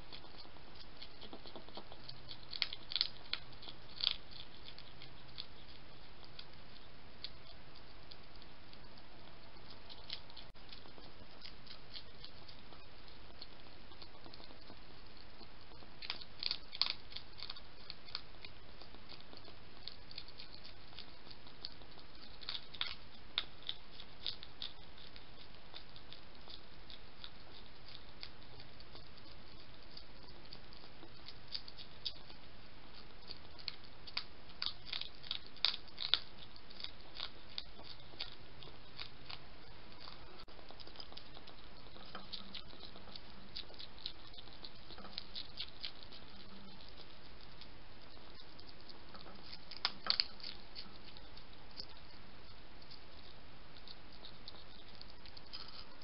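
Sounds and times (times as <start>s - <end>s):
hedgehog chewing clicks: 0.0s - 56.0s.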